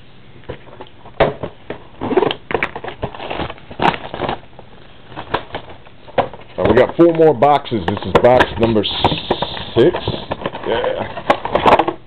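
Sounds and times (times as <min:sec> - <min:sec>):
packaging crinkling: 0:01.9 - 0:11.9.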